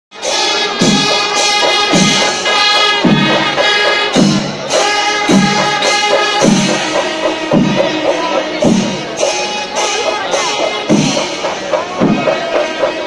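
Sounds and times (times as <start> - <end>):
drum strokes: 0.1 - 13.0
pitched wind instrument melody: 0.1 - 13.0.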